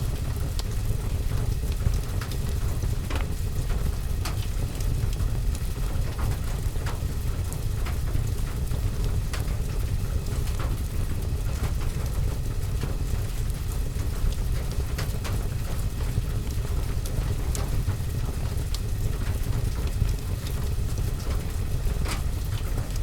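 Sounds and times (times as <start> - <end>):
rain heard from indoors: 0.0 - 23.0
wood fire crackling: 0.0 - 23.0.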